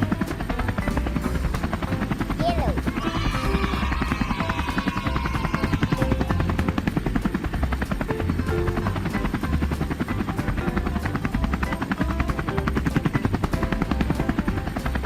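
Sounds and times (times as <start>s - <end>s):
helicopter rotor chopping: 0.0s - 15.0s
soft background music: 0.0s - 15.0s.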